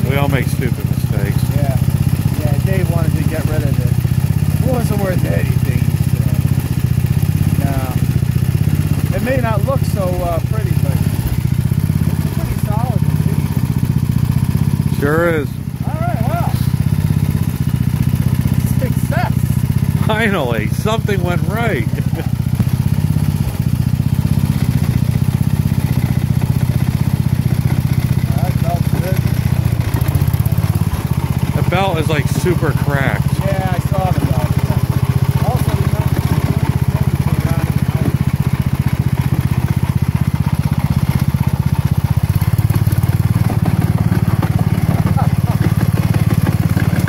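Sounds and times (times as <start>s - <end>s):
lawn tractor engine running: 0.0s - 47.0s.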